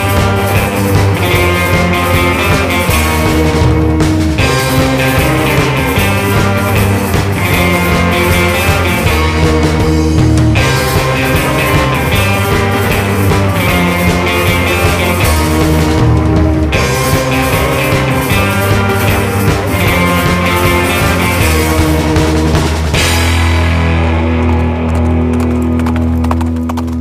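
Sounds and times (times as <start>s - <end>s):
bass guitar: 0.0s - 27.0s
drums: 0.0s - 27.0s
electric guitar: 0.0s - 27.0s.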